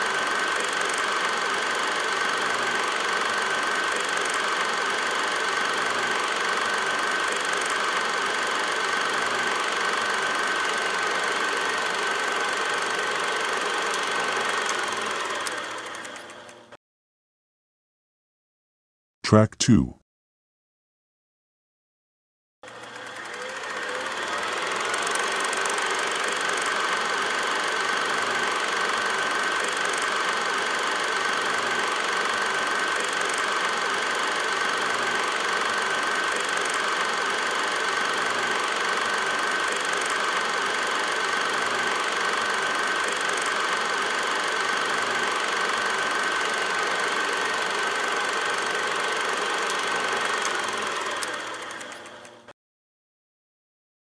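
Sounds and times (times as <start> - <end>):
film projector clatter: 0.0 - 16.8, 22.6 - 52.5.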